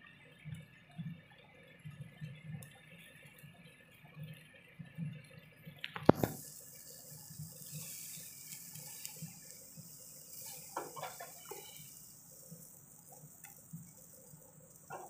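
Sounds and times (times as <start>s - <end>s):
chicken sizzling on grill: 0.0s - 15.0s.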